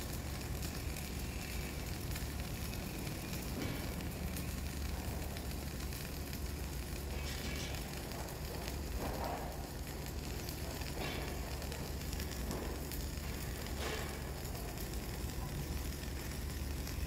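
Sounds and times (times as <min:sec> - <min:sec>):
steady low hum: 0:00.0 - 0:17.0
welding arc crackling: 0:00.0 - 0:17.0.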